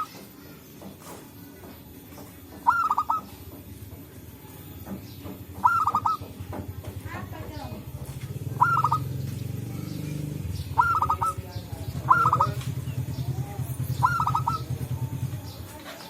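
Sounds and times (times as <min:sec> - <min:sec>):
dove calling: 0:00.0 - 0:16.0.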